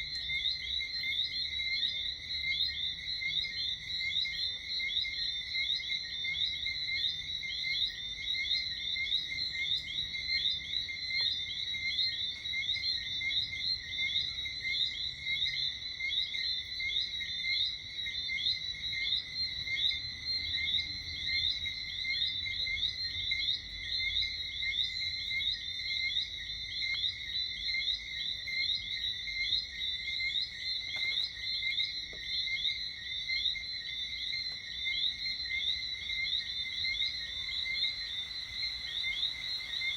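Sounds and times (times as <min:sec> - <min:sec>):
frogs chirping: 0:00.0 - 0:39.9.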